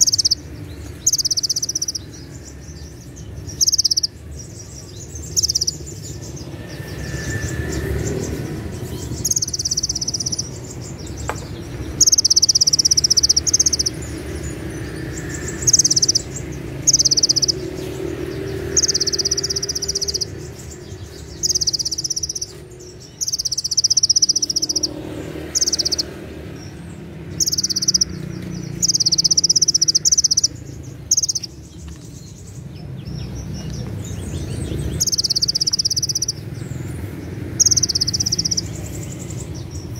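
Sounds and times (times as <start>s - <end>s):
bird singing shrill trills: 0.0s - 39.9s.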